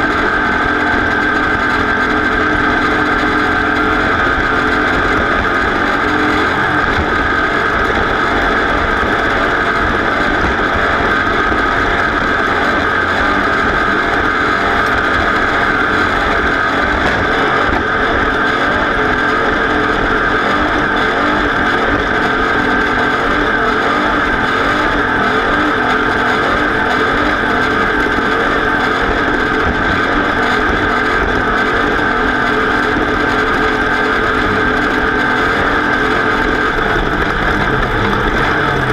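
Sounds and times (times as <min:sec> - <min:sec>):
racing engine running loud: 0:00.0 - 0:38.9.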